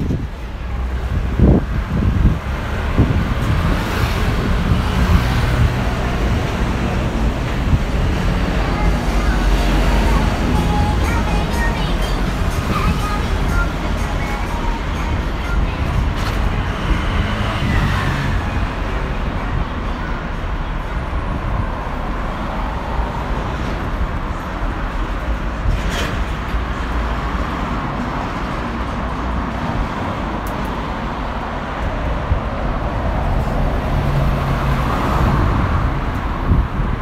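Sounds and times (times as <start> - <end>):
road traffic rumble and hiss: 0.0 - 37.0.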